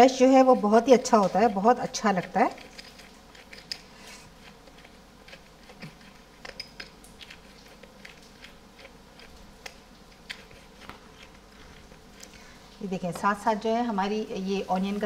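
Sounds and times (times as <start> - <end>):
pepper mill grinding: 0.0 - 12.4.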